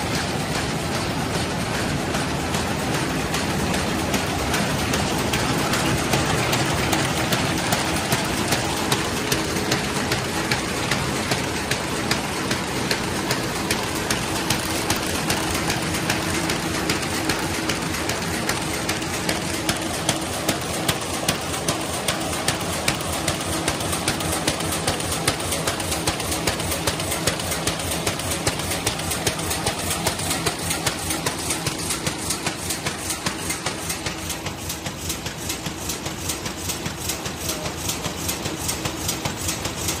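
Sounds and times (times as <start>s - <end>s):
machine clattering: 0.0s - 40.0s.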